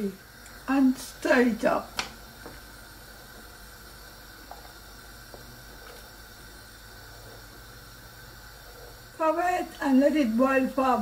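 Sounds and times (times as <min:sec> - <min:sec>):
soup pot hissing on gas stove: 0:00.0 - 0:11.0.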